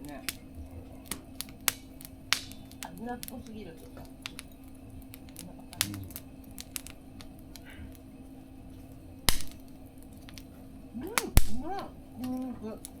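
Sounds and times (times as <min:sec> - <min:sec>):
faint steady hum: 0:00.0 - 0:13.0
sharp pops of fire: 0:00.0 - 0:13.0
wood fire crackling: 0:00.0 - 0:13.0.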